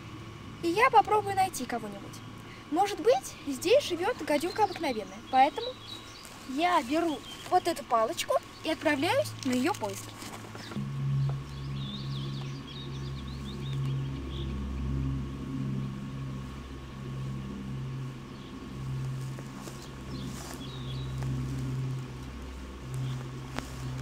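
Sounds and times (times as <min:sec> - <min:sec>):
faint high whine: 0:00.0 - 0:24.0
steady low hum: 0:00.0 - 0:24.0
small birds chirping: 0:00.7 - 0:24.0.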